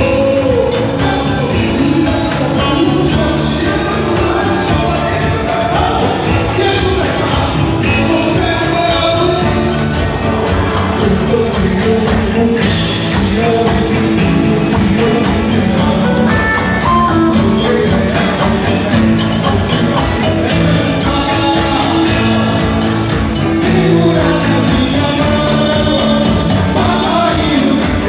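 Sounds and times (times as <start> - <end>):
fast percussion beat: 0.0 - 28.0
person singing: 0.0 - 28.0.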